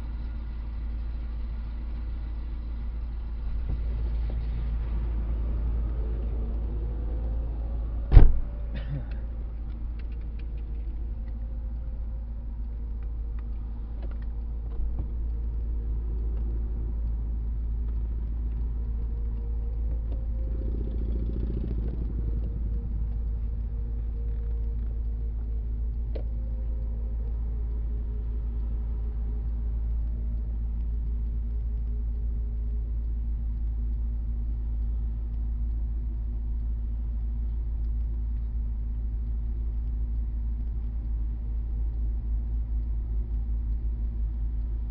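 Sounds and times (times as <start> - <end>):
light clicks: 0.0 - 44.9
motor vehicle rumble: 0.0 - 44.9.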